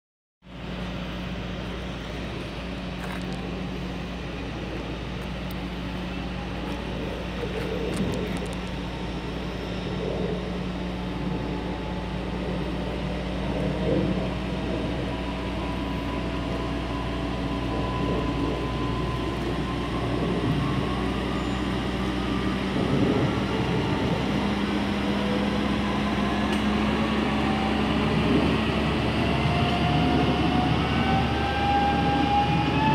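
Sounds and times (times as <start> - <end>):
excavator diesel engine: 0.4 - 32.9
thin rising whine: 0.5 - 32.9.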